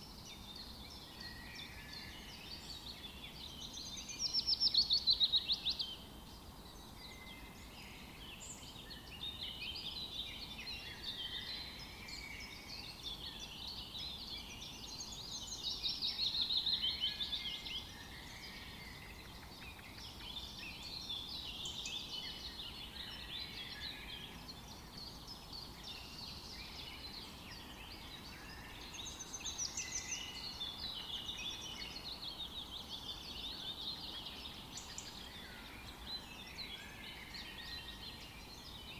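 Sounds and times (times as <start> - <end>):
songbirds singing and trilling: 0.0 - 38.9.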